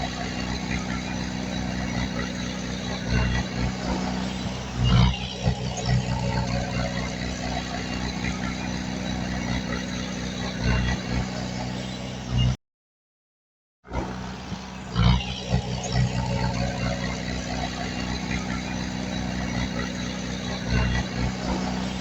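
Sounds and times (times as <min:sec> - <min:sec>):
diesel engine running: 0:00.0 - 0:12.6, 0:13.9 - 0:22.0.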